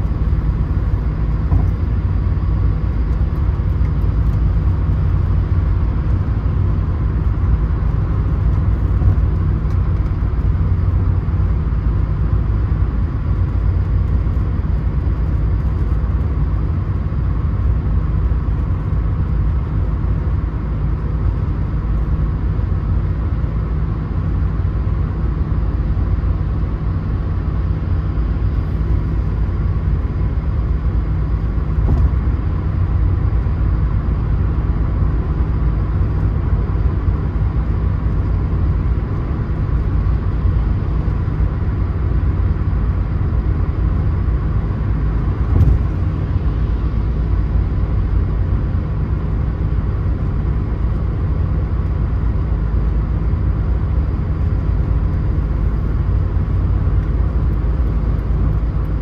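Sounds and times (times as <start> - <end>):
car road noise rumble: 0.0 - 59.0.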